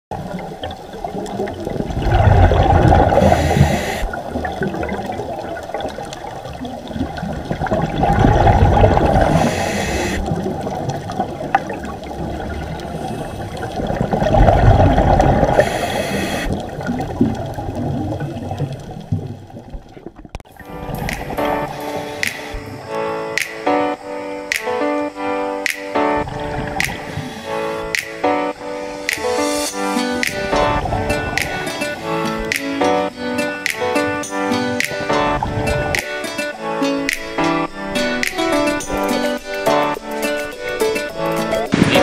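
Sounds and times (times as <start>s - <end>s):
rushing water: 0.1s - 42.0s.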